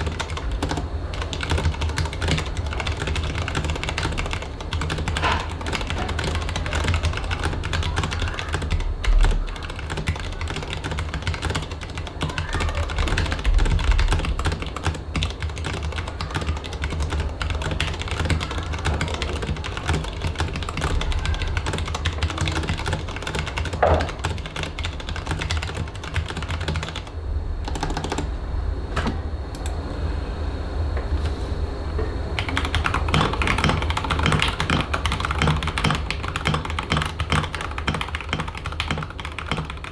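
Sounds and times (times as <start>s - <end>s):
typing on mechanical keyboard: 0.0s - 28.3s, 32.4s - 39.9s.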